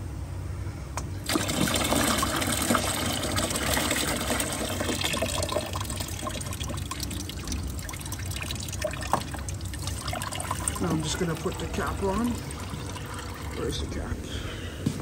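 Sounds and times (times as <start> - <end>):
coolant pouring into container: 1.2 - 14.2.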